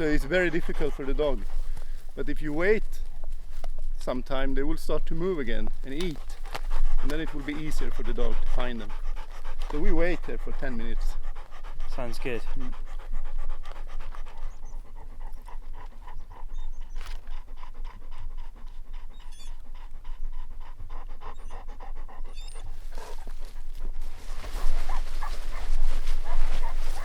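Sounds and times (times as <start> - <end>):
dog panting quickly: 0.0 - 27.0.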